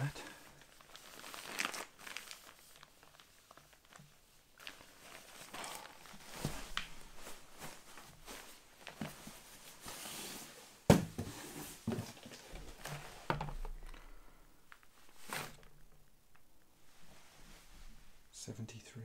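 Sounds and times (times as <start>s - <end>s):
fabric and plastic bag rustling: 0.1s - 18.3s.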